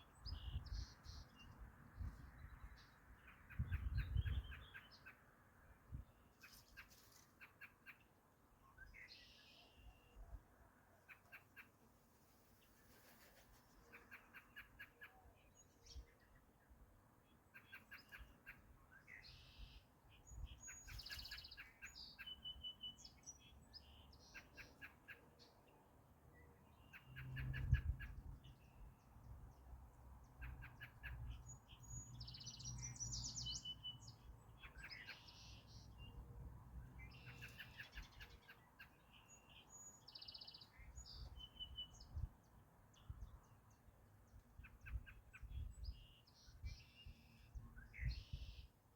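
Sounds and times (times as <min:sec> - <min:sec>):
wild birds chirping and trilling: 0:00.0 - 0:48.9.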